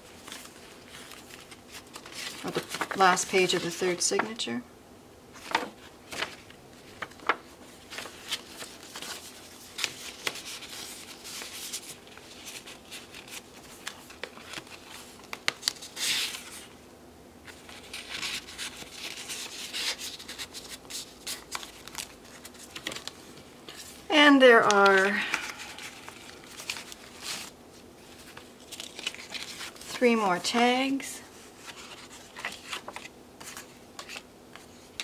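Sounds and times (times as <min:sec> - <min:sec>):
paper rustling: 0:00.1 - 0:04.0, 0:05.4 - 0:16.8, 0:17.4 - 0:24.0, 0:24.6 - 0:35.0.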